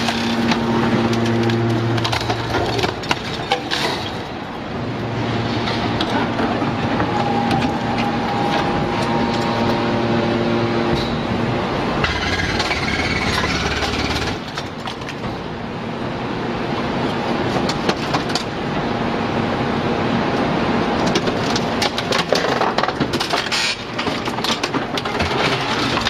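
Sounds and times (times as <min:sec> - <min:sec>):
hydraulic baler machine hum: 0:00.0 - 0:22.1.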